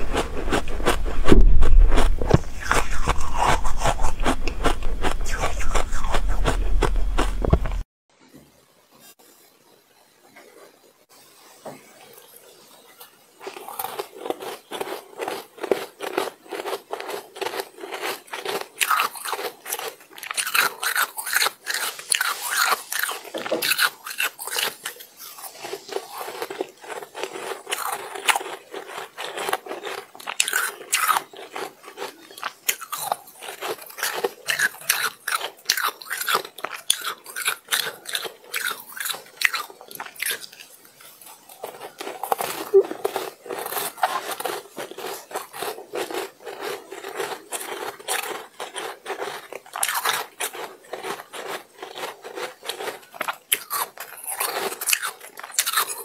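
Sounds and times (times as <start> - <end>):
chewing shaved ice crunching: 0.0 - 7.8, 13.4 - 56.0.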